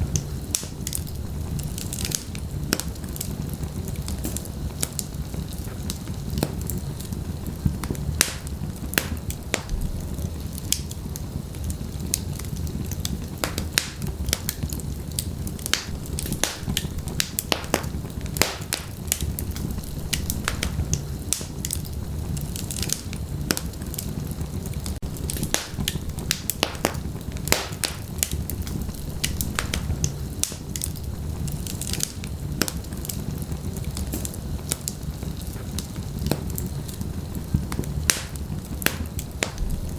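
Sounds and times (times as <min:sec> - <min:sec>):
low rumble of flame: 0:00.0 - 0:39.9
wood fire pops and snaps: 0:00.0 - 0:39.9.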